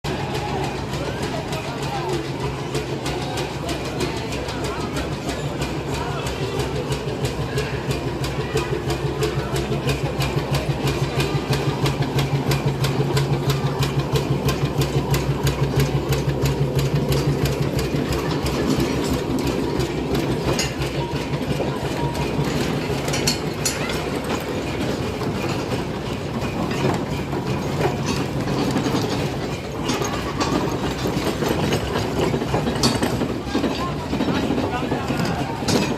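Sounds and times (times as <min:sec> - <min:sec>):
steam engine exhaust beat: 0:00.1 - 0:35.9.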